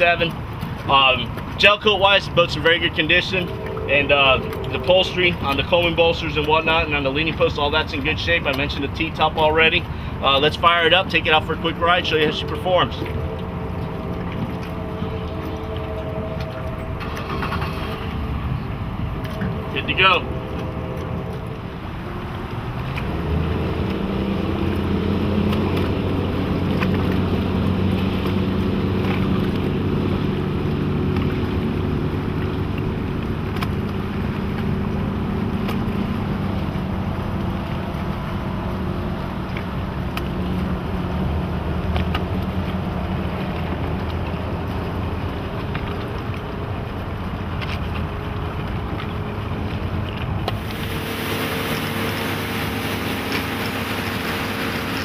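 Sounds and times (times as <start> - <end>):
outboard motor running: 0.0 - 55.0
rushing wind and water: 0.0 - 55.0.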